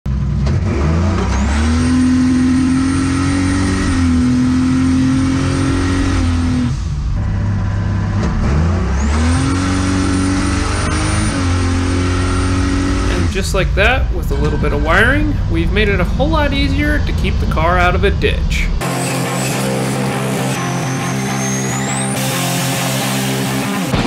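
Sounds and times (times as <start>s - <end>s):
car engine accelerating hard: 0.1s - 24.0s.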